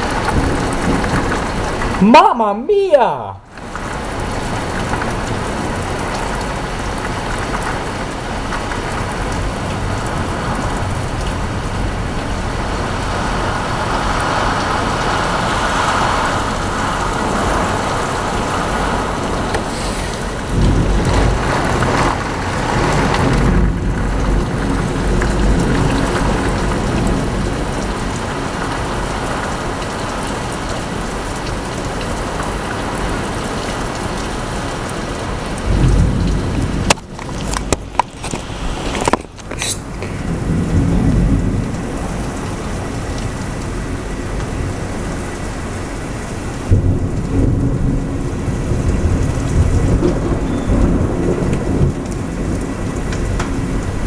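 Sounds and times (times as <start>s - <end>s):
thunder rumbling: 0.0s - 2.2s, 3.4s - 29.7s, 35.5s - 45.0s, 46.6s - 54.0s
heavy rain pouring: 0.0s - 54.0s.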